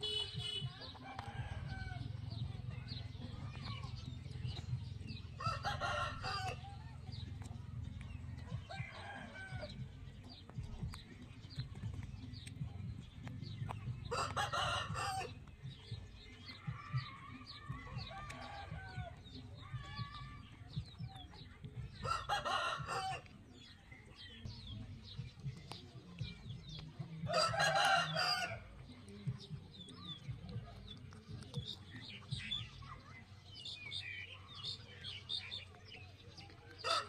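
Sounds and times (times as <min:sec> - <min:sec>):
loud bird calls: 0:00.0 - 0:31.0, 0:31.6 - 0:37.0.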